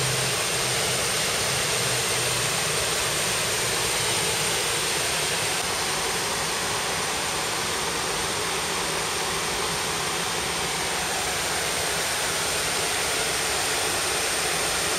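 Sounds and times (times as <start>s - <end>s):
flowing water rushing: 0.0s - 14.9s.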